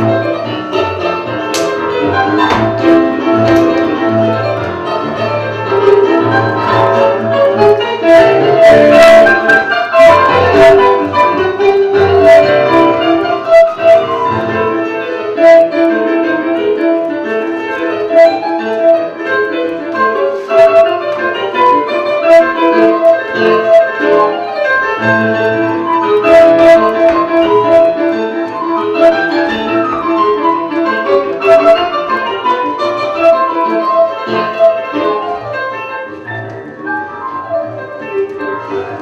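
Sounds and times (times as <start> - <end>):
piano-like keyboard music: 0.0 - 39.0.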